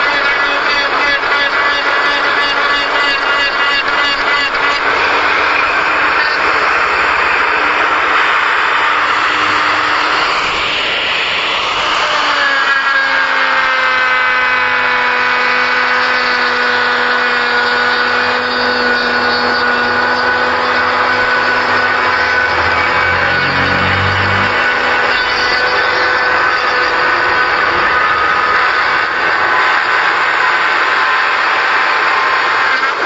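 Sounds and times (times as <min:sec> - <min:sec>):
motor whine: 0:00.0 - 0:33.0
power tool grinding wood: 0:00.0 - 0:33.0.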